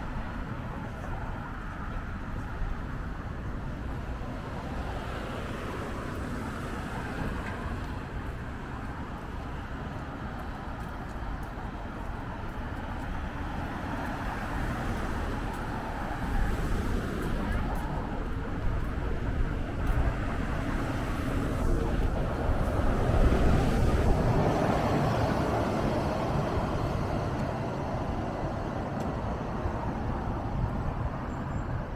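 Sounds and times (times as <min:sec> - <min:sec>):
cars driving on street: 0:00.0 - 0:31.9.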